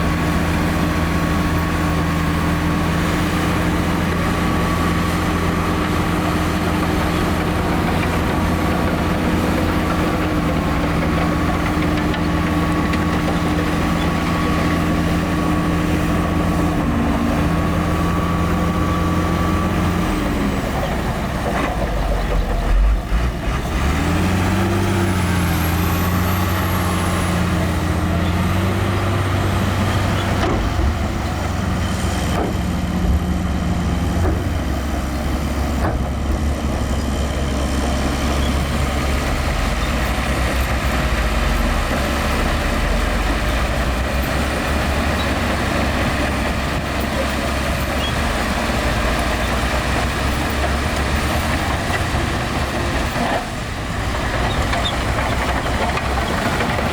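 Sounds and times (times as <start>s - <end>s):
heavy diesel machinery engine drone: 0.0s - 56.9s.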